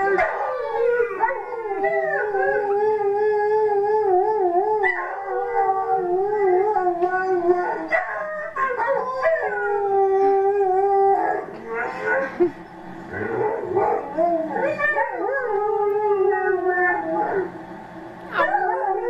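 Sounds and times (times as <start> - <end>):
dog howling: 0.0 - 12.4, 13.1 - 17.6, 18.3 - 19.0.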